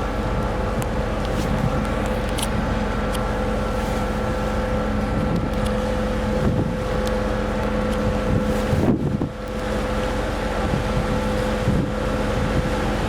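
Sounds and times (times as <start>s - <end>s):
ferry engines droning: 0.0s - 13.0s
wind buffeting microphone: 0.0s - 13.0s.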